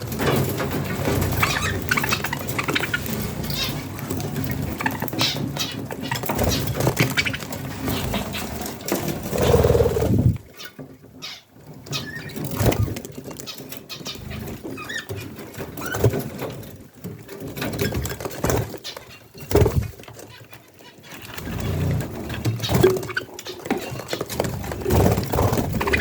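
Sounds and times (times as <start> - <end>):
budgerigars chirping and chattering: 0.2 - 16.6, 17.4 - 26.0.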